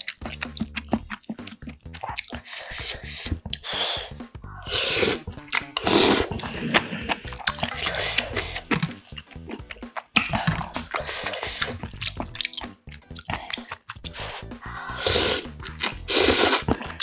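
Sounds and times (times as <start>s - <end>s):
slurps: 0.0s - 17.0s
wet chewing and smacking: 0.0s - 17.0s.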